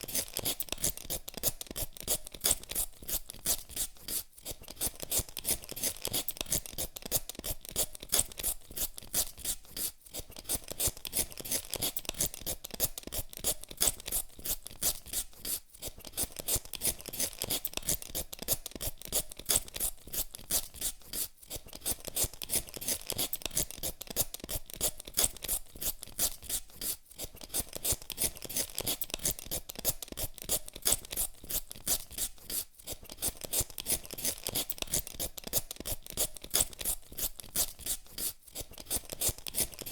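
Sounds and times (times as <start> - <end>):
peeler scraping potato skin: 0.0 - 39.9.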